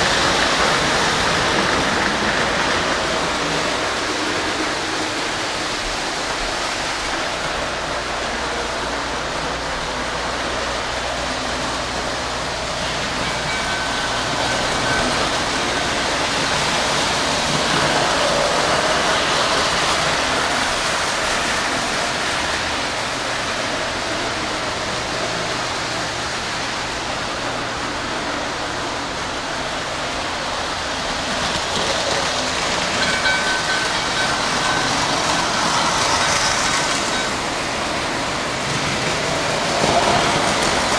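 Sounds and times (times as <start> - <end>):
model train wheels rumbling on rail: 0.0 - 40.9.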